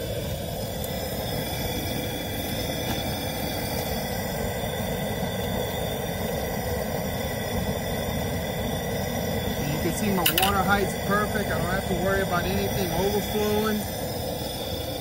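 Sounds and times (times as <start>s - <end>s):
gas burner running: 0.0s - 15.0s
water boiling hard: 0.0s - 15.0s.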